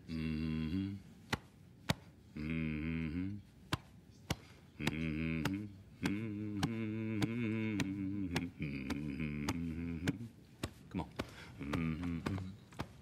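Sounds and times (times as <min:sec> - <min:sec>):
man humming a low chant: 0:00.0 - 0:01.4, 0:02.2 - 0:03.7, 0:04.7 - 0:13.0.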